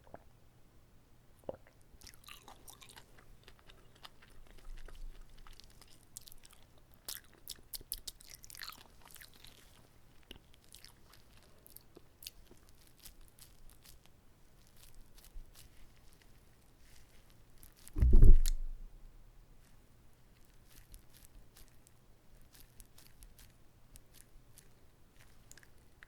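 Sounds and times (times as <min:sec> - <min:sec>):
close chewing with wet mouth clicks: 0:01.4 - 0:17.9, 0:20.3 - 0:26.0.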